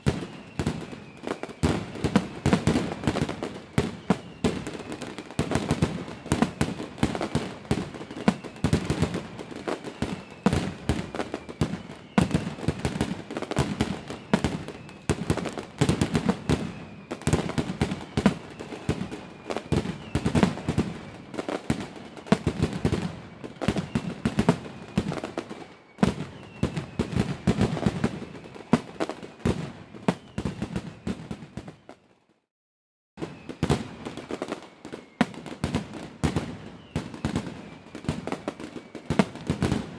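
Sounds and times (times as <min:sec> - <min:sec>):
fireworks bangs and crackling: 0:00.0 - 0:32.2, 0:33.2 - 0:39.9.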